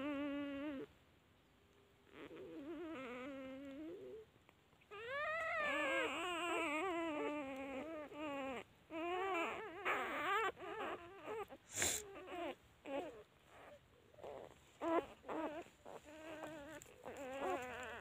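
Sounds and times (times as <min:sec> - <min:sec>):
puppies crying and whining: 0:00.0 - 0:00.9, 0:02.1 - 0:18.0.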